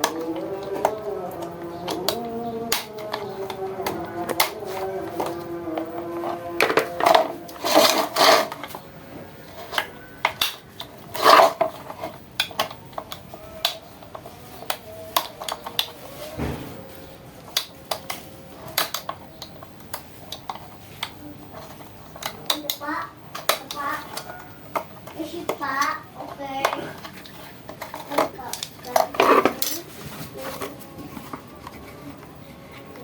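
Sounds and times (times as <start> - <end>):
hard objects clinking and clattering: 0.0 - 33.0.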